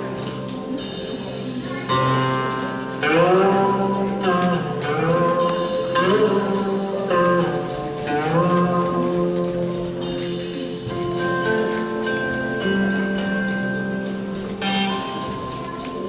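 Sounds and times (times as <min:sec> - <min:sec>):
jingly percussion beat: 0:00.0 - 0:16.0
sliding melody: 0:00.0 - 0:16.0.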